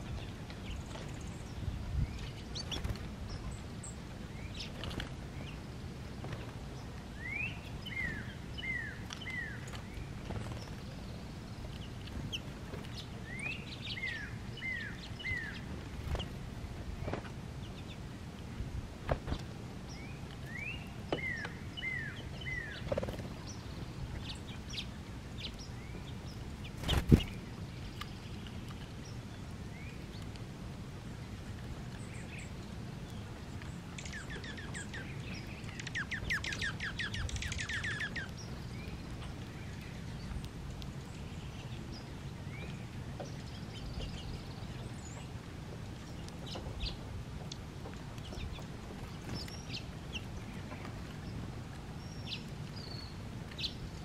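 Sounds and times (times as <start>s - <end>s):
low background noise: 0.0s - 54.0s
songbirds chirping: 0.0s - 54.0s.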